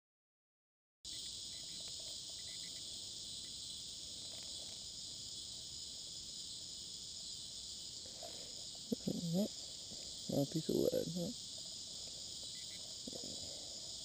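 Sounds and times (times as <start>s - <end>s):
crickets chirping: 1.1s - 14.0s.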